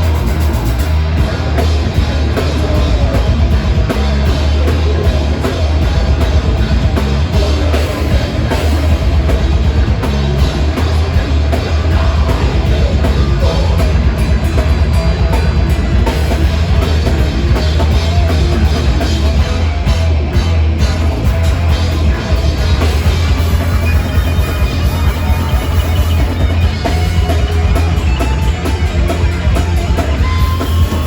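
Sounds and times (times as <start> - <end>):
electric guitars: 0.0 - 31.0
loud drum kit: 0.0 - 31.0
metal band playing live: 0.0 - 31.0.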